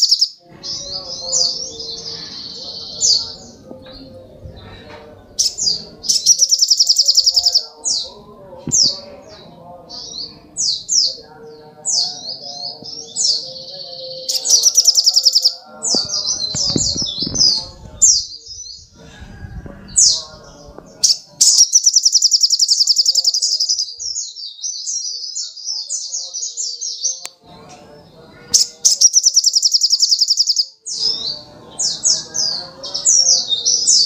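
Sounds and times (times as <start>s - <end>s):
sunbird chirping: 0.0s - 3.5s, 5.4s - 8.2s, 10.0s - 18.9s, 20.5s - 27.2s, 28.6s - 34.0s.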